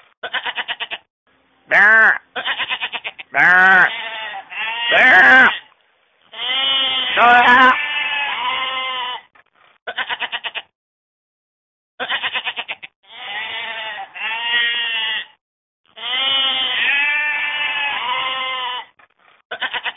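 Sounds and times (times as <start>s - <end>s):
livestock bleating: 0.2s - 1.1s, 1.7s - 5.7s, 6.3s - 9.3s, 9.9s - 10.7s, 12.0s - 19.9s.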